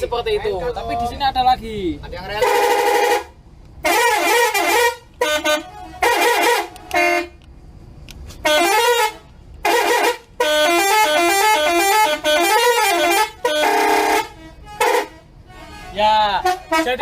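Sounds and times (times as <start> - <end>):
musical bus air horns: 2.4 - 7.5, 8.3 - 17.0.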